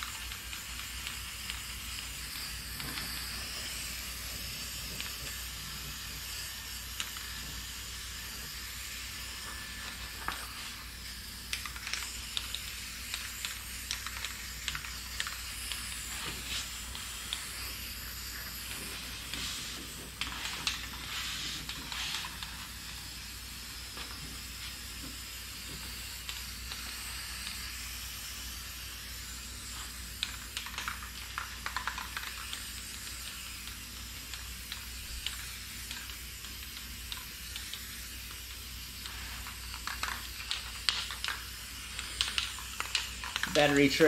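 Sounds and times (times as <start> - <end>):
spray paint can hissing: 0.0 - 44.0.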